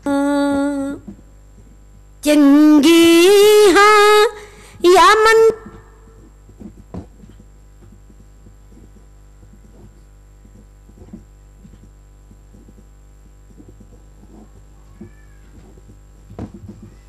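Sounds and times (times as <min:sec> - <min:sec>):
low electrical hum: 0:00.0 - 0:17.0
thin high whine: 0:00.0 - 0:17.0.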